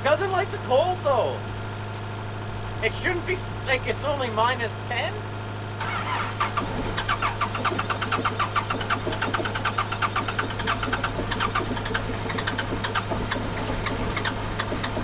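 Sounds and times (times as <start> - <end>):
cold diesel engine rough idle: 0.0 - 15.0.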